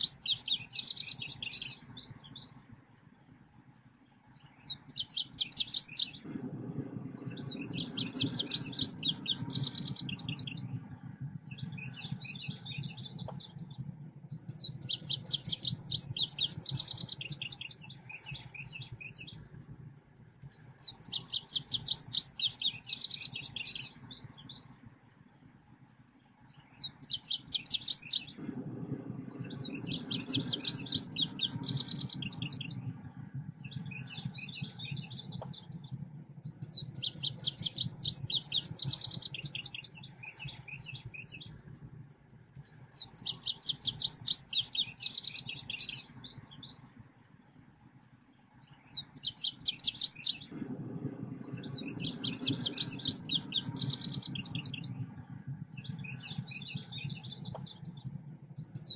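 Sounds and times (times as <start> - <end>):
songbird rapid high chirping: 0.0 - 2.9, 4.3 - 6.3, 7.1 - 19.5, 20.4 - 25.0, 26.4 - 28.4, 29.2 - 41.6, 42.6 - 47.1, 48.6 - 58.9
low hum: 0.0 - 58.9.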